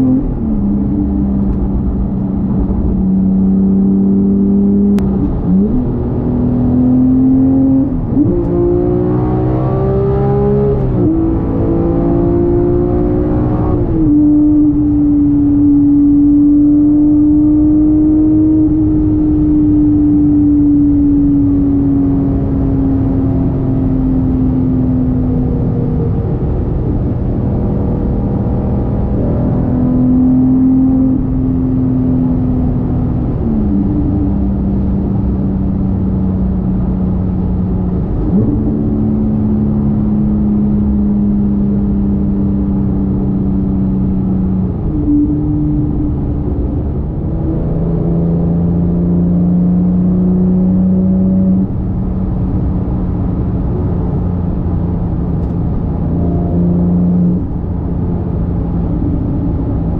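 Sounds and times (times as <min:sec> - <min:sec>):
car engine revving through gears: 0:00.0 - 0:59.9
road noise: 0:00.0 - 0:59.9.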